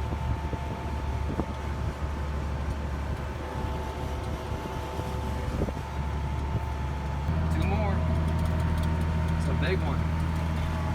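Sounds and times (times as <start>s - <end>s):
farm machinery engine drone: 0.0s - 10.9s.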